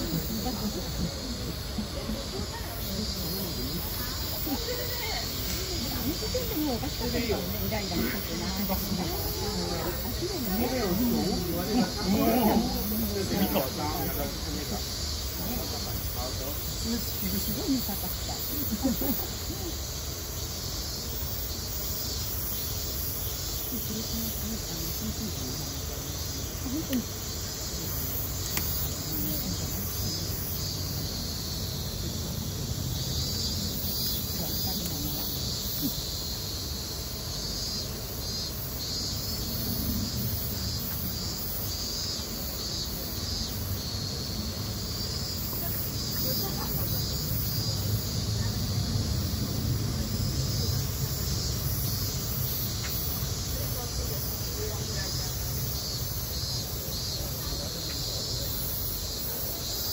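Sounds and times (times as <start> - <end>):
distant voices: 0.0 - 20.9, 23.4 - 59.9
insects shrilling: 0.0 - 59.9.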